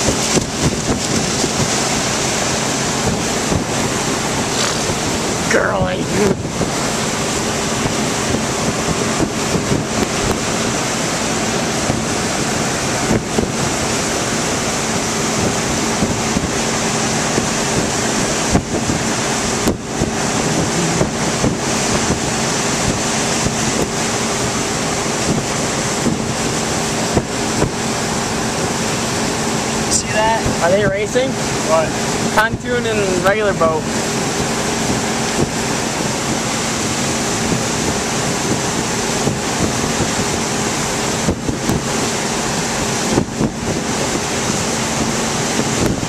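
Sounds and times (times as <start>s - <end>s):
motorboat engine hum: 0.0s - 46.0s
rush of boat wake: 0.0s - 46.0s
wind buffeting microphone: 0.0s - 46.0s.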